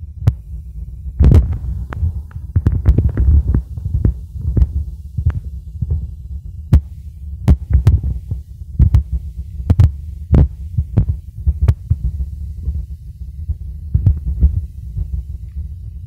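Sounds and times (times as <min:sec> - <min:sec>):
low rumble on microphone: 0:00.0 - 0:16.0.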